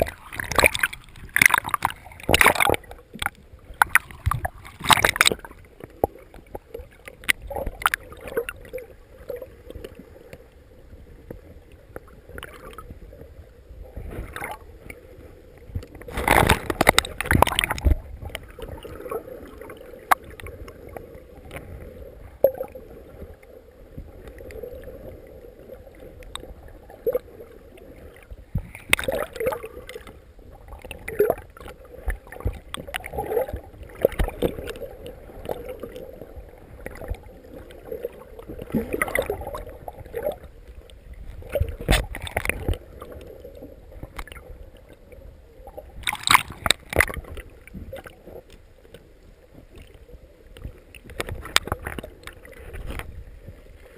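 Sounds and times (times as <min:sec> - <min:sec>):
water sloshing around hull: 0:00.0 - 0:53.9
water splashing: 0:00.0 - 0:53.9.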